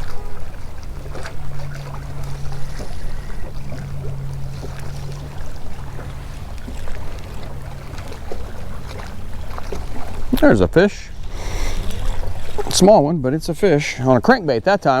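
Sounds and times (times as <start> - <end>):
water washing: 0.0 - 14.6
boat motor humming: 0.0 - 15.0.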